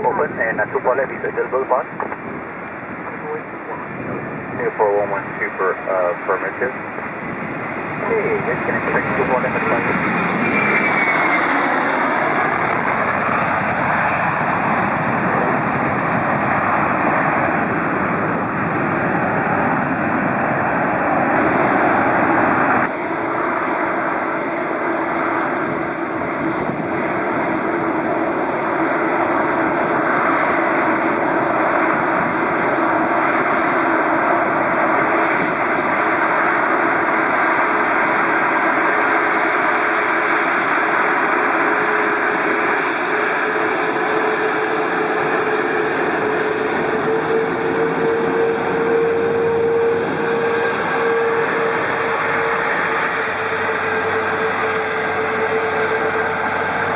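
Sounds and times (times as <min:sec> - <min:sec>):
jet engines rushing: 0:00.0 - 0:56.9.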